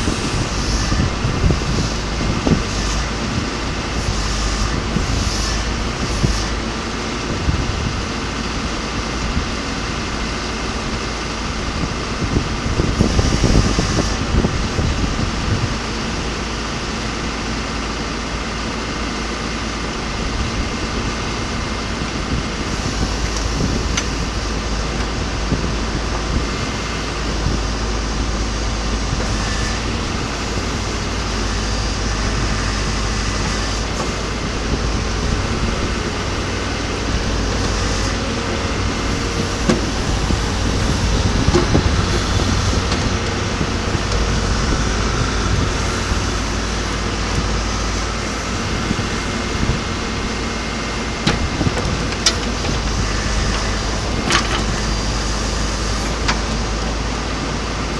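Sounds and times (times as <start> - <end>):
diesel engine rumbling: 0.0 - 57.9.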